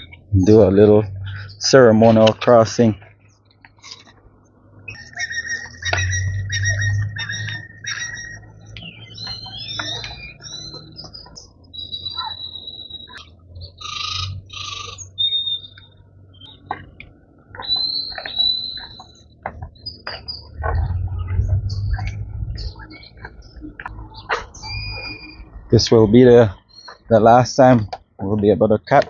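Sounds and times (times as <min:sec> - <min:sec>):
birds chirping and whistling: 0:00.0 - 0:29.0.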